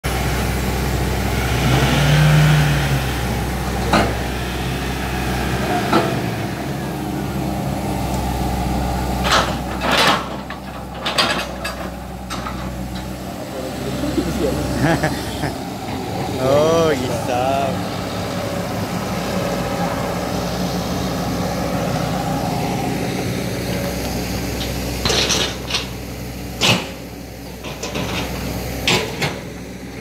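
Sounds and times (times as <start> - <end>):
engines running: 0.0 - 30.0.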